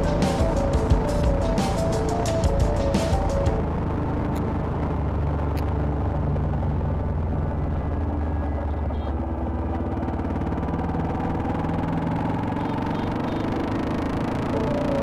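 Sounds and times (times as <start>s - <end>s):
motorcycle engine running steadily: 0.0s - 15.0s.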